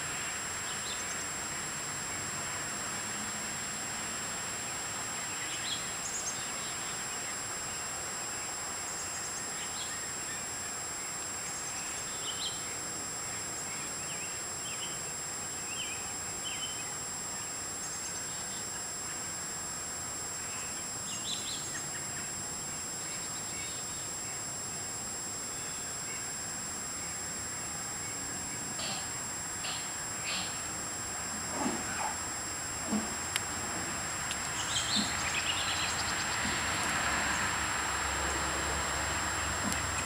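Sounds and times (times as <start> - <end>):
background hiss: 0.0 - 40.0
faint high whine: 0.0 - 40.0.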